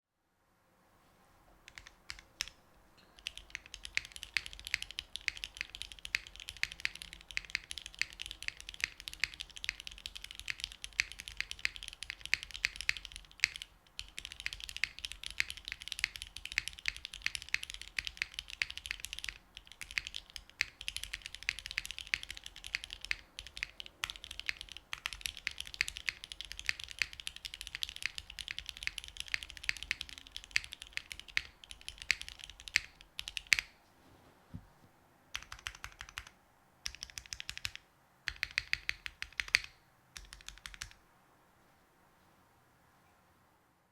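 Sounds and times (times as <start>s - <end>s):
fast typing on mechanical keyboard: 1.7s - 2.6s, 3.2s - 33.7s, 35.3s - 41.0s.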